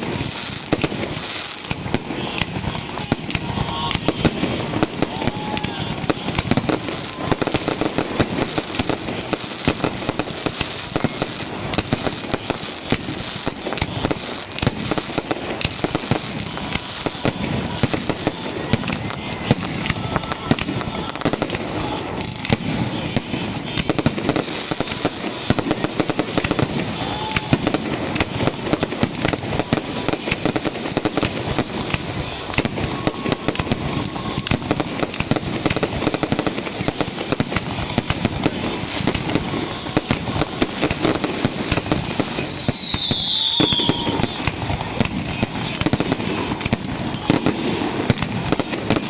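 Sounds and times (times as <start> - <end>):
falling firework whistle: 0.0 - 49.0
fireworks bursting and crackling: 0.0 - 49.0.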